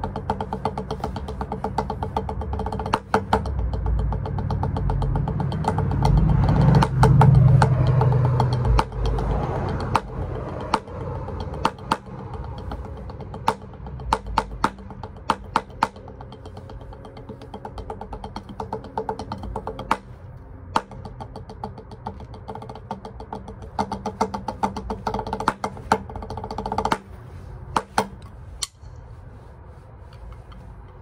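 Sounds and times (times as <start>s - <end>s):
drumsticks on practice pad: 0.0s - 31.0s
passing vehicle engine rumble: 0.0s - 31.0s.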